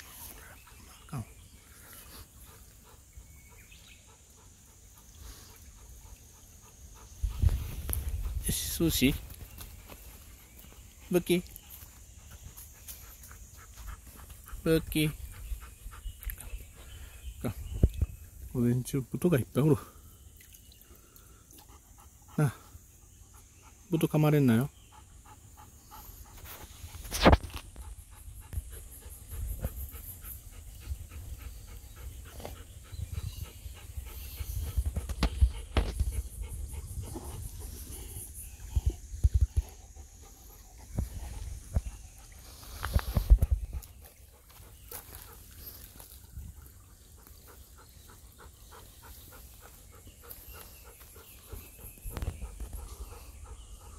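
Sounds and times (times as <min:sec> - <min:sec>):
dog panting: 0:00.0 - 0:17.5, 0:21.6 - 0:46.2, 0:46.8 - 0:53.9.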